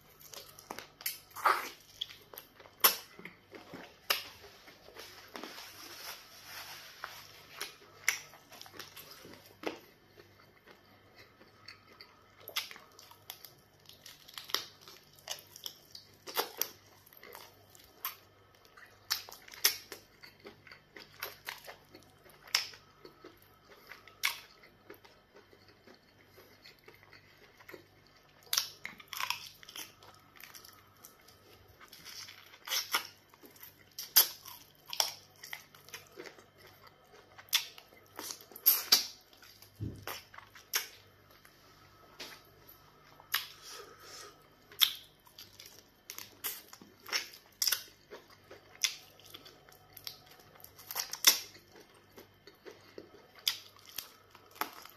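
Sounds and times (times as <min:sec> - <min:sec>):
person chewing and sucking meat: 0:00.0 - 0:54.9.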